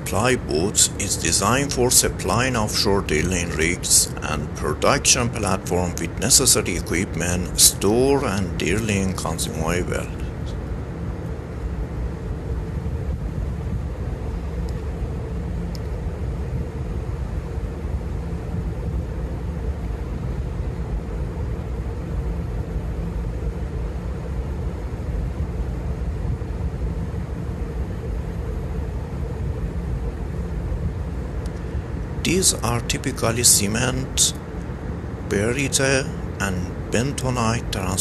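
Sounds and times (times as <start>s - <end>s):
faint constant hum: 0.0s - 38.0s
marine engine rumble: 0.0s - 38.0s.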